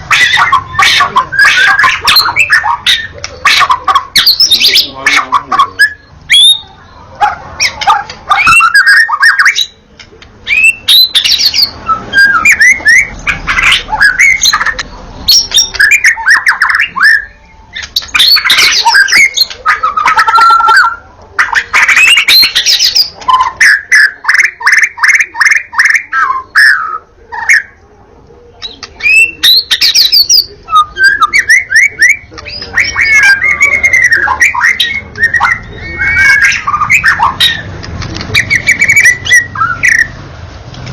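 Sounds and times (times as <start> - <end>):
bird singing varied song: 0.0 - 40.3.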